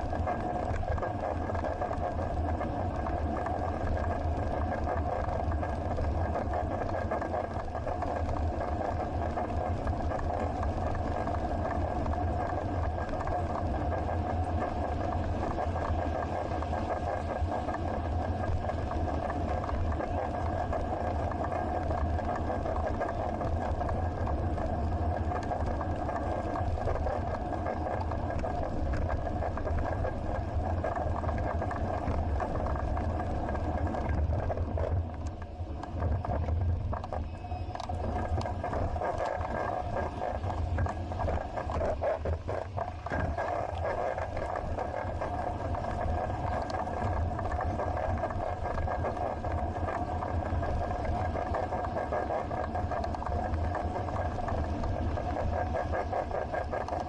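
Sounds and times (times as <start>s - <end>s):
bicycle rolling noise: 0.0s - 57.0s.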